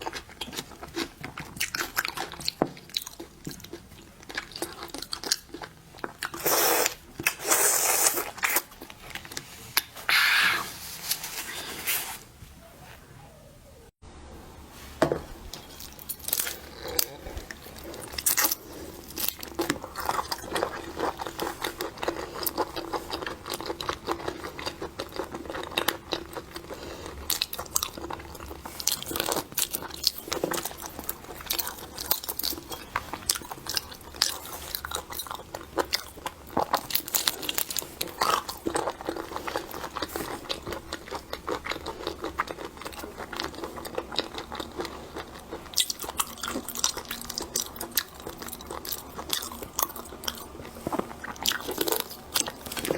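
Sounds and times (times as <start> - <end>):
crunching and chewing food: 0.0 - 12.1, 15.5 - 52.9.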